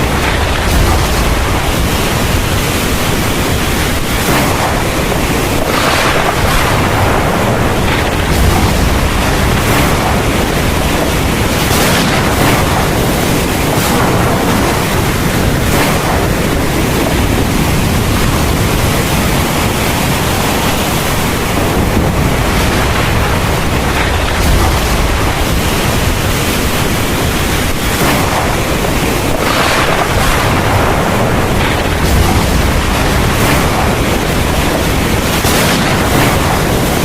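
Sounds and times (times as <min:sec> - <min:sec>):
deep rumble: 0:00.0 - 0:37.0
heavy rain pouring: 0:00.0 - 0:37.0.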